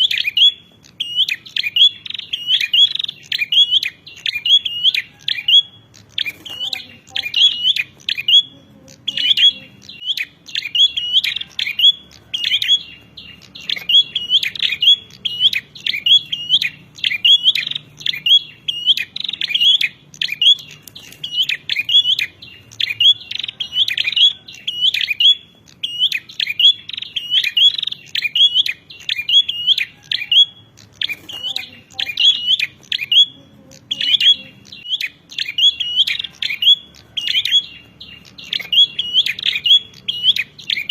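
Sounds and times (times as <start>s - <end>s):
bird giving sharp high chirps: 0.0s - 40.9s.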